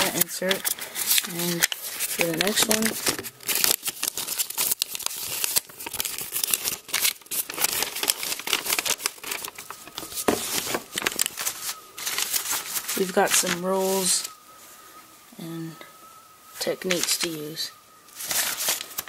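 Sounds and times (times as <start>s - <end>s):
paper and plastic crinkling: 0.0s - 14.8s, 16.5s - 19.0s.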